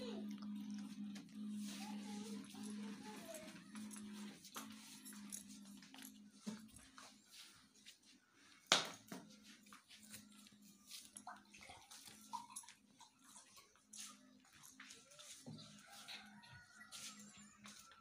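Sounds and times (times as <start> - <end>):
footsteps with small clicks and knocks: 0.3 - 18.0.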